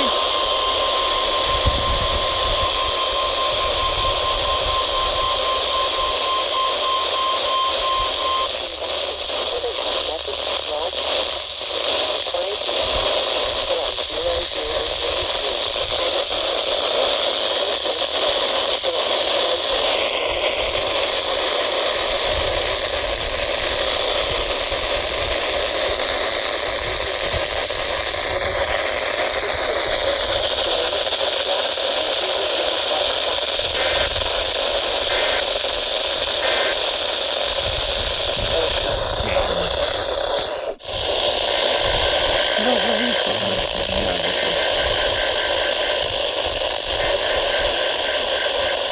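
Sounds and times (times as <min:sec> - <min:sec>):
radio static hiss: 0:00.0 - 0:48.9.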